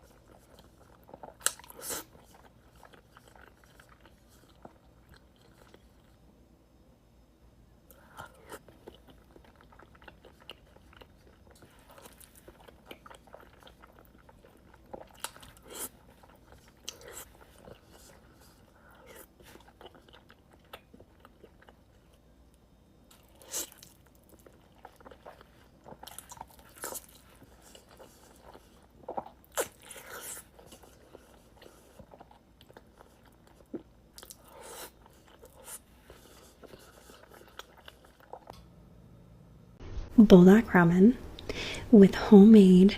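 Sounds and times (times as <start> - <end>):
bites and crunches with chewing: 0.0 - 6.2, 7.9 - 38.6.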